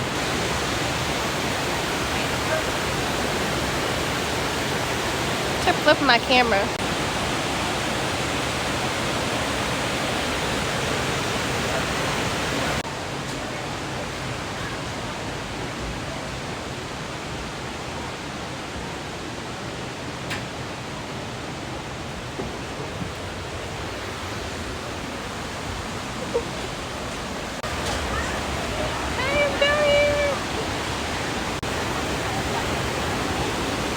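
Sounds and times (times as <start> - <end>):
waterfall and creek water rushing: 0.0 - 33.9.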